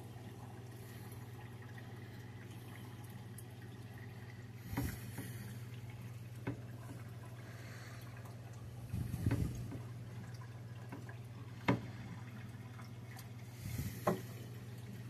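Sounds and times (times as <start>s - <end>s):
aquarium water dripping and trickling: 0.0s - 15.0s
steady low hum: 0.0s - 15.0s.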